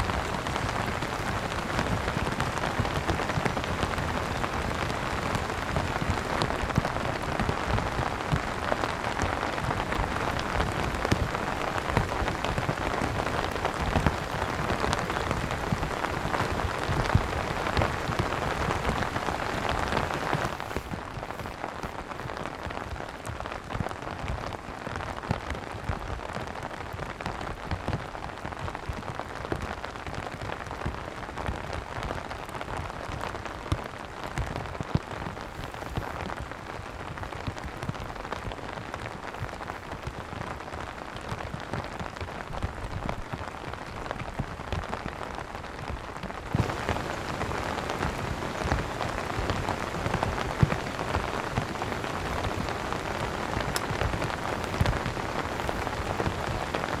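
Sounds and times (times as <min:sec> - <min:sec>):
rain drops hitting a surface: 0:00.0 - 0:57.0.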